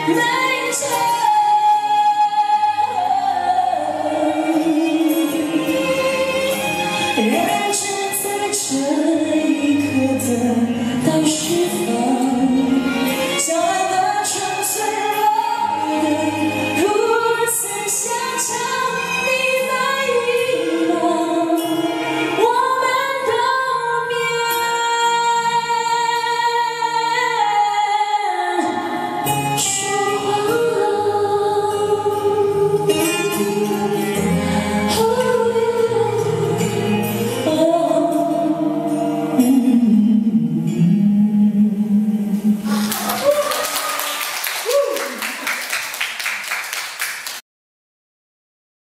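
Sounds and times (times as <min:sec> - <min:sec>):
person singing pop ballad: 0:00.0 - 0:43.4.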